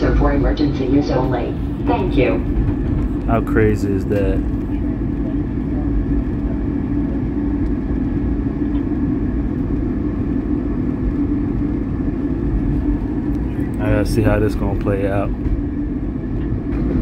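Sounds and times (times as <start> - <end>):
constant low hum: 0.0 - 17.0
subway train rumble: 0.0 - 17.0.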